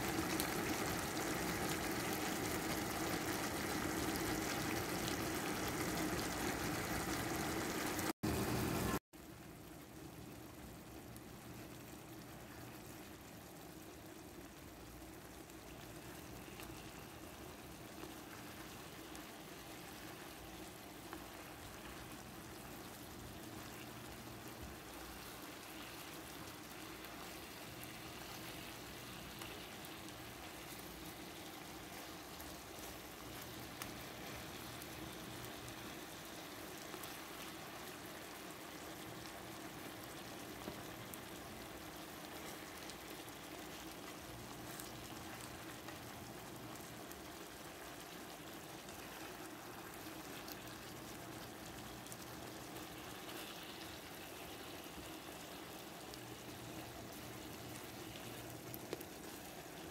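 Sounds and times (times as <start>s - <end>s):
chicken sizzling in a pan: 0.0s - 59.9s.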